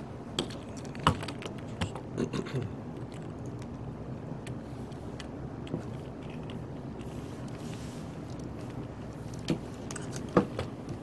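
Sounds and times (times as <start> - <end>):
room noise hum: 0.0 - 11.0.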